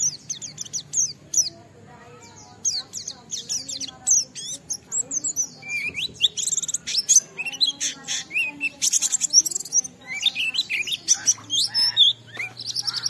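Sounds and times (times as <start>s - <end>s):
songbird singing rapid trills: 0.0s - 13.0s.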